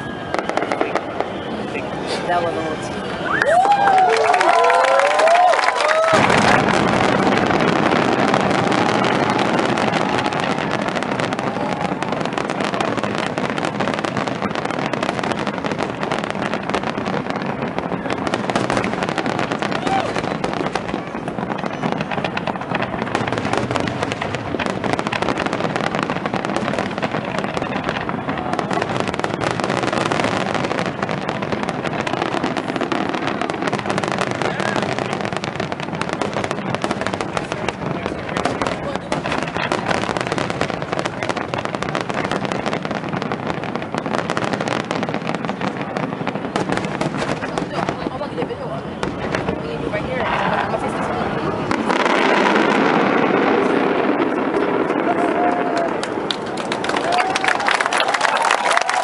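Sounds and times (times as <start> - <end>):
crowd voices: 0.0 - 59.0
fireworks bangs and crackling: 0.0 - 59.0.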